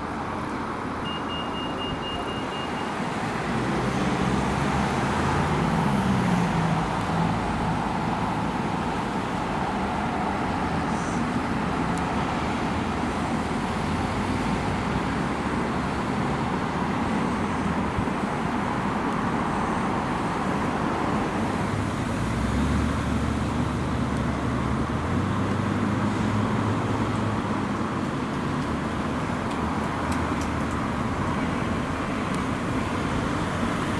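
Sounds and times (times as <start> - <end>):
passing vehicles rushing: 0.0 - 33.9.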